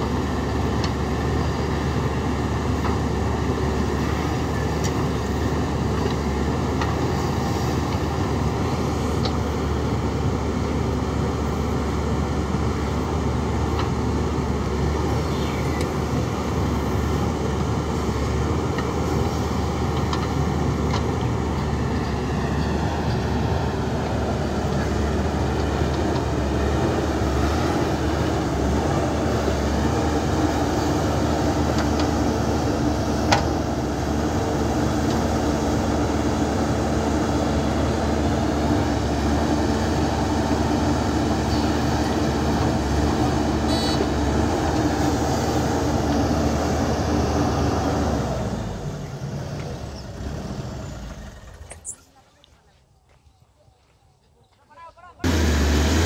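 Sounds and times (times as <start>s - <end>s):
diesel engine running under load: 0.0s - 52.0s, 55.2s - 56.0s.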